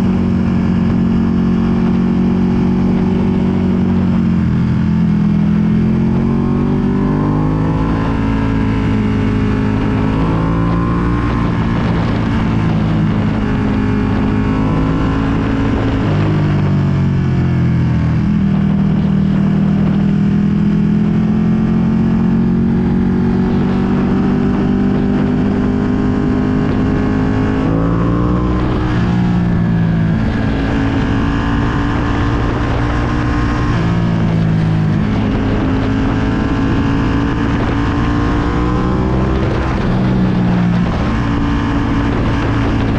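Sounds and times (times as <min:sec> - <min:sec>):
motorcycle engine revving: 0:00.0 - 0:42.9
wind rushing over microphone: 0:00.0 - 0:42.9.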